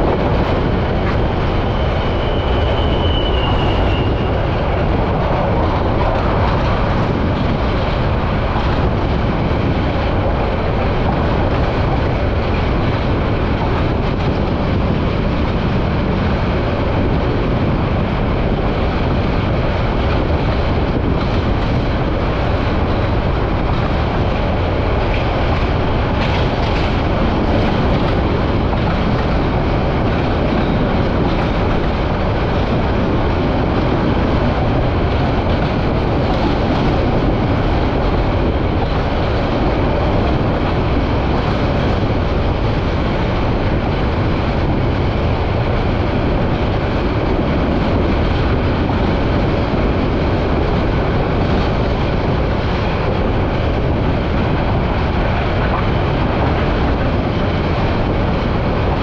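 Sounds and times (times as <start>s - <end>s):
train wheels on track: 0.0s - 59.0s.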